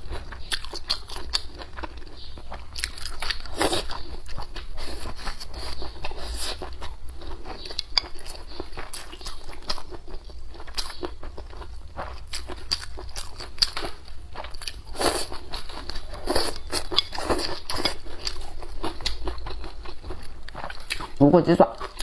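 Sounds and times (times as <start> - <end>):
chewing and crunching: 0.0 - 22.0.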